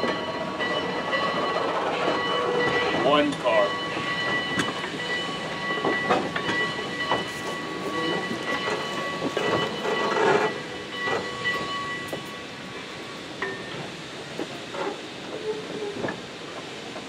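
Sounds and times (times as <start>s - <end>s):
railroad cars rolling over track: 0.0s - 17.0s.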